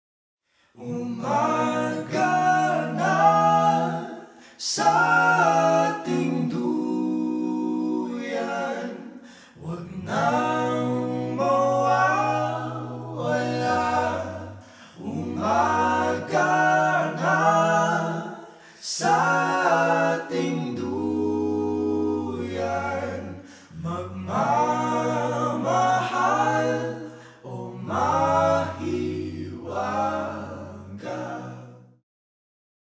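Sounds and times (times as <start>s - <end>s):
voices singing in harmony: 0.7s - 32.0s.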